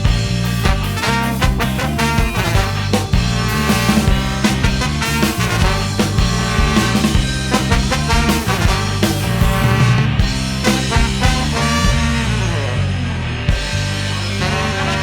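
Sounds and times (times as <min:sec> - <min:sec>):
drum hits: 0:00.0 - 0:12.2
horn section: 0:00.0 - 0:15.0
live ska band playing: 0:00.0 - 0:15.0.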